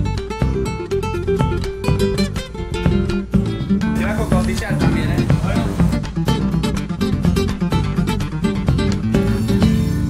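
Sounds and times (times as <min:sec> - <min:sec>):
acoustic guitar strumming and plucking: 0:00.0 - 0:10.0.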